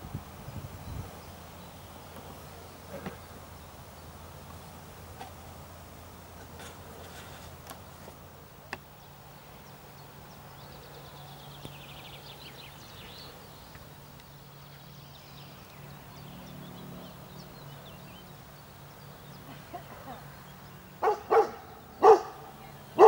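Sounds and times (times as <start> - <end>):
songbirds chirping: 0.5 - 23.0.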